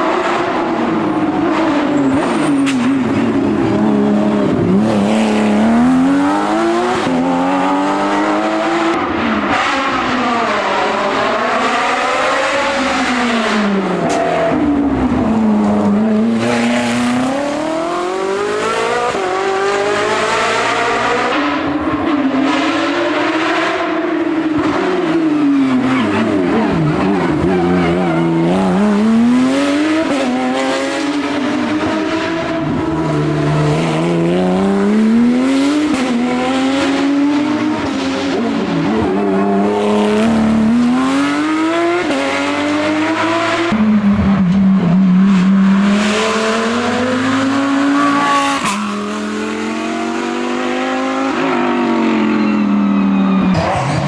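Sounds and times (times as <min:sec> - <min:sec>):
racing car engine accelerating: 0:00.0 - 0:54.0.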